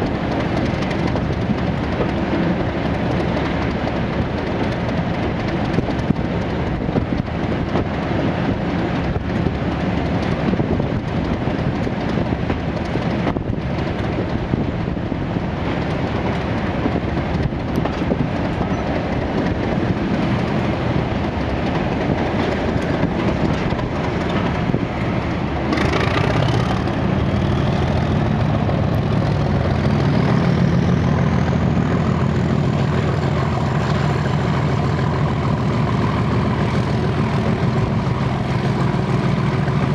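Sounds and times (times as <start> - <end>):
diesel locomotive engines working hard: 0.0 - 39.9.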